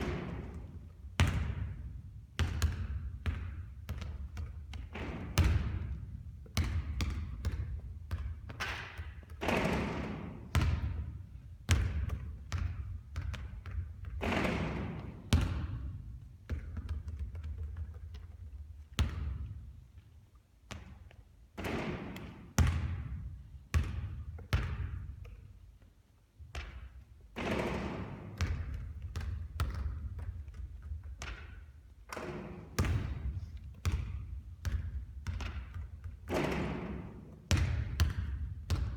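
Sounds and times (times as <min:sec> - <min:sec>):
basketball bouncing on court: 0:00.0 - 0:25.8, 0:26.4 - 0:38.9.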